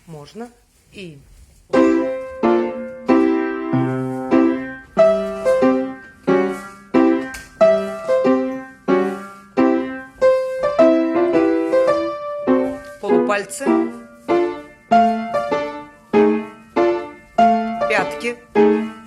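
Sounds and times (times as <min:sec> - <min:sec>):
piano chords: 0:01.7 - 0:19.0.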